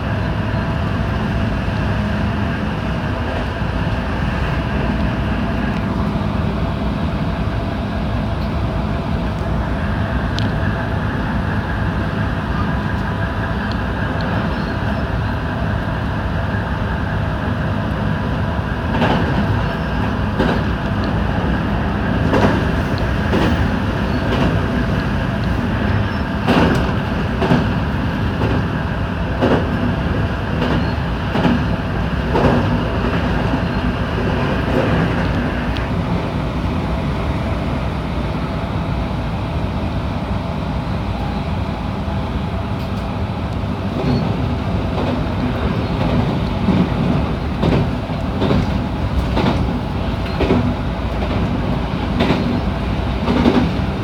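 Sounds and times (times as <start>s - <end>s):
high-pitched train hum: 0.0s - 54.0s
train rumble: 0.0s - 54.0s.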